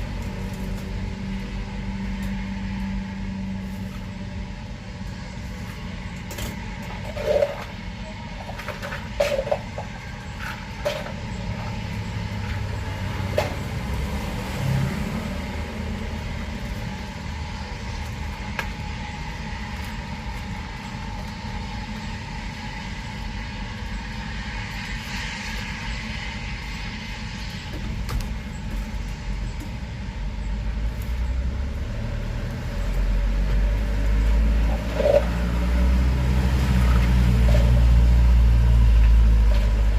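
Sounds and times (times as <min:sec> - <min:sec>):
traffic engine rumble: 0:00.0 - 0:39.9.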